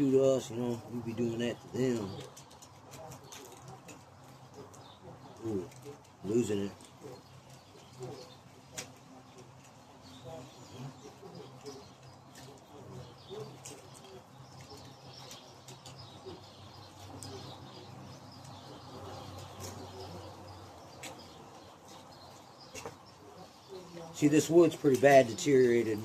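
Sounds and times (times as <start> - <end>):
dove cooing: 0.0 - 22.1
wild birds chirping: 0.0 - 26.0.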